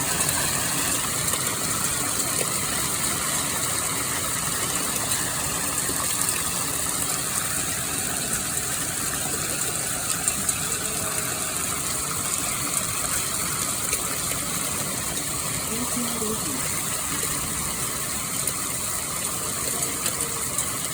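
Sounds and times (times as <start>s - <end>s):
hail pattering: 0.0s - 20.9s.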